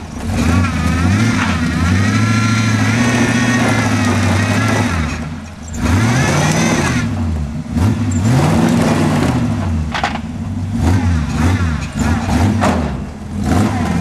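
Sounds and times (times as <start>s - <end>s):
engine straining and revving: 0.0s - 14.0s.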